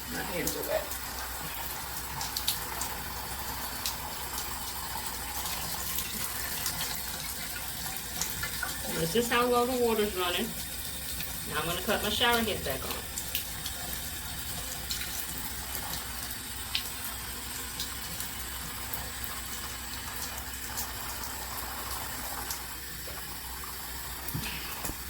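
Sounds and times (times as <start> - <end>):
shower water running: 0.0 - 25.0.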